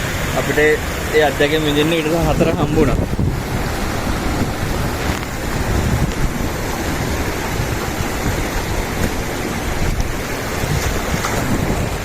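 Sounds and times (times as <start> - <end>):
waterfall rushing roar: 0.0 - 12.0.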